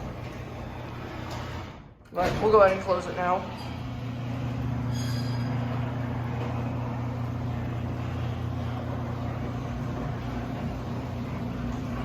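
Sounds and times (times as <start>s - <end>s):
garage door opener motor hum: 0.0s - 12.0s.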